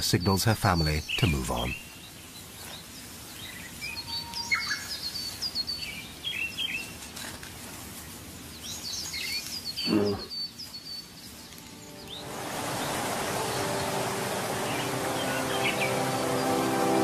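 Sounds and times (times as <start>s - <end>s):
birds chirping: 0.0s - 7.4s, 8.0s - 17.0s
outdoor ambience: 0.0s - 17.0s.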